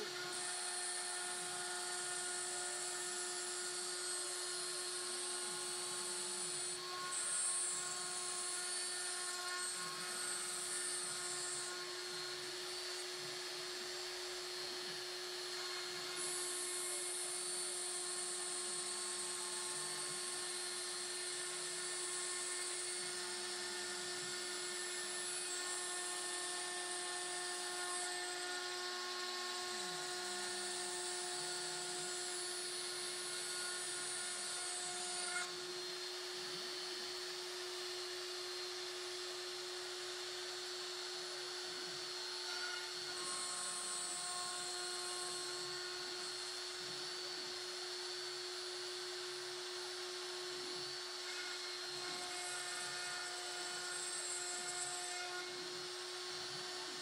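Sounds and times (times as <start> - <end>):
cutter routing wood hiss: 0.0 - 57.0.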